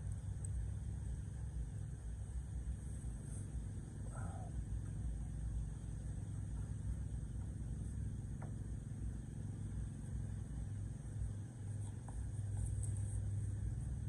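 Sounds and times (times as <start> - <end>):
power inverter humming: 0.0 - 14.0.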